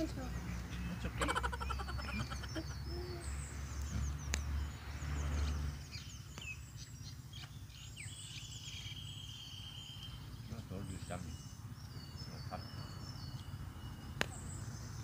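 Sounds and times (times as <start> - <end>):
long steady bird trill: 0.0 - 15.0
small birds chirping: 0.0 - 15.0.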